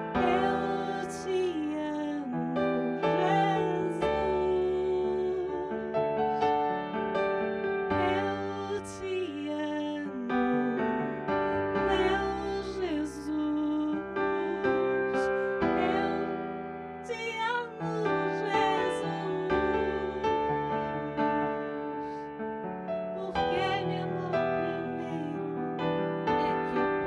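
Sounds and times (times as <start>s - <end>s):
piano accompaniment: 0.0s - 27.0s
woman singing into microphone: 0.1s - 6.0s, 8.0s - 11.2s, 11.8s - 22.2s, 23.2s - 25.7s, 26.3s - 27.0s.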